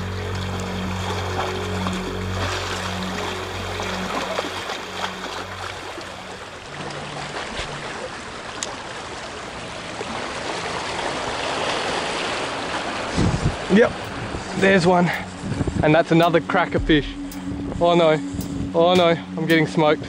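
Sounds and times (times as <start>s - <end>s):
sea water washing over rocks: 0.0s - 20.0s.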